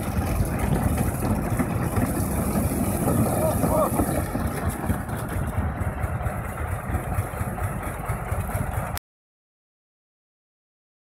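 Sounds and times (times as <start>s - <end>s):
harvester machinery rumbling: 0.0s - 9.0s.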